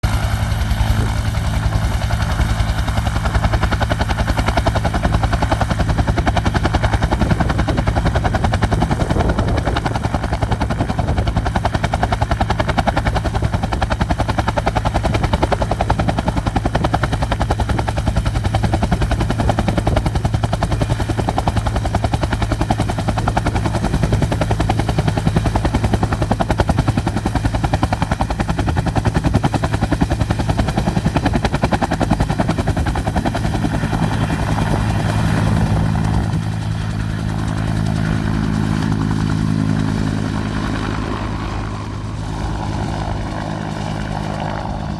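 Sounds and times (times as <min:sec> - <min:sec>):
helicopter taking off: 0:00.0 - 0:44.9.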